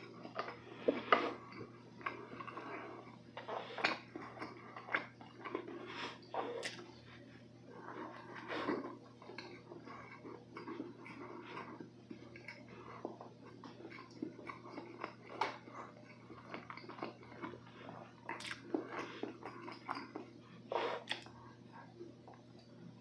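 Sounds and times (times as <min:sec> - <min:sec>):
close chewing mouth smacks: 0:00.0 - 0:07.0, 0:07.9 - 0:21.4.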